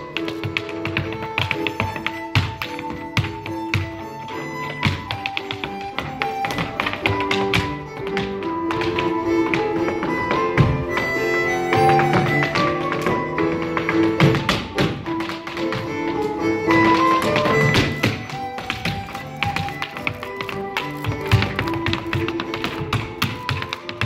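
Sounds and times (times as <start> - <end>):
dance shoes tapping on wooden floor: 0.0 - 24.0
folk dance tune: 0.0 - 24.0.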